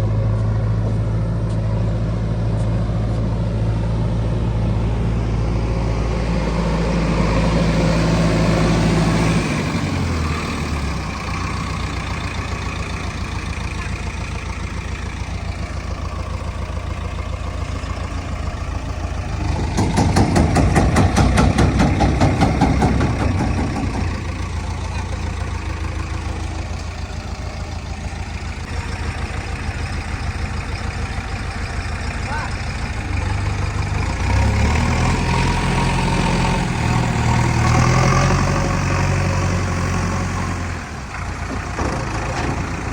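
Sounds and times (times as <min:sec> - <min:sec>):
backhoe diesel engine running: 0:00.0 - 0:42.9.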